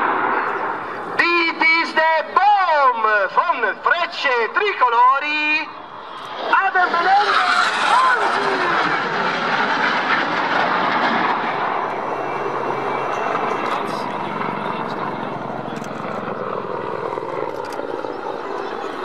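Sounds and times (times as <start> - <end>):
helicopter turbines and rotor: 0.0 - 19.0
jets passing: 0.0 - 19.0.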